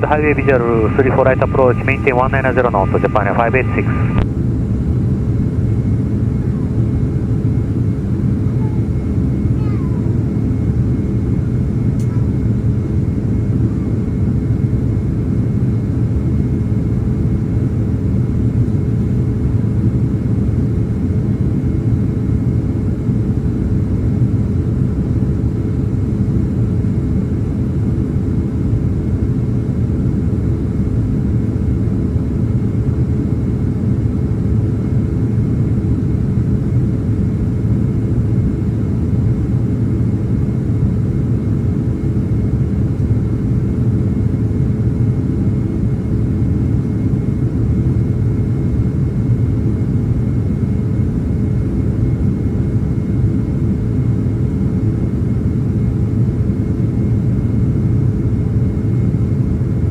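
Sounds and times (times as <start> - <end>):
airplane cabin engine rumble: 0.0 - 59.9
constant cabin hum: 0.0 - 59.9.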